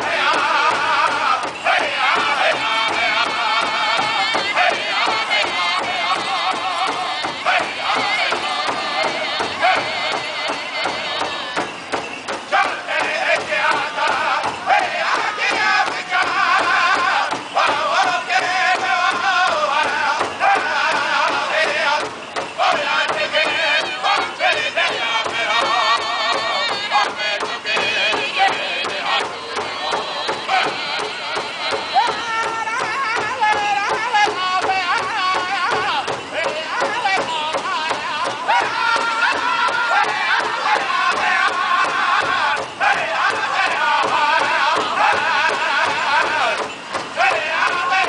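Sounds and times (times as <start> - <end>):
large drum beat: 0.0 - 48.0
men chanting: 0.0 - 48.0.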